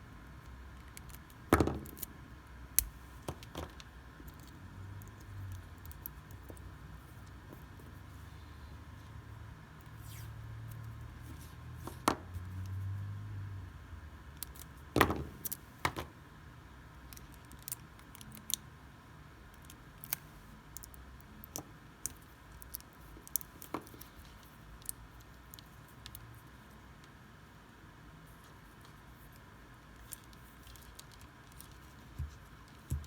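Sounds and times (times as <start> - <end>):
faint electrical whine: 0.0 - 33.0.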